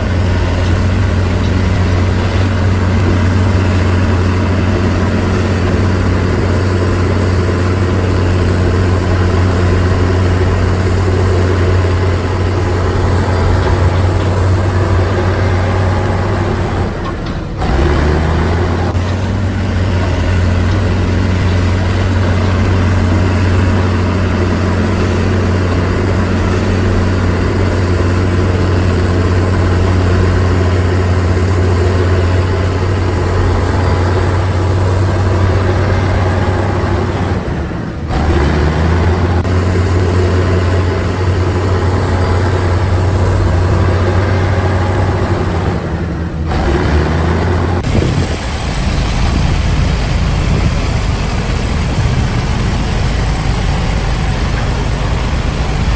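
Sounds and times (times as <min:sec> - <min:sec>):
heavy diesel machinery engine: 0:00.0 - 0:55.9.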